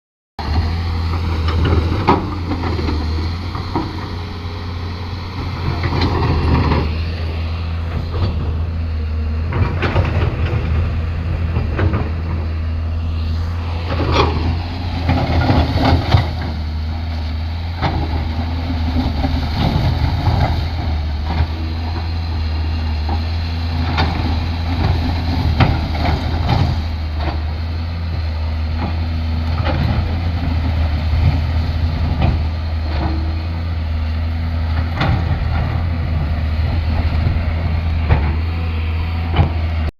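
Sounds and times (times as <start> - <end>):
excavator diesel engine running: 0.4 - 39.9.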